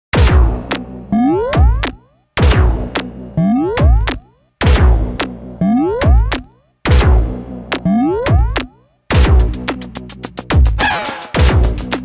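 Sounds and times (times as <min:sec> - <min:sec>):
drum-machine beat: 0:00.1 - 0:12.0.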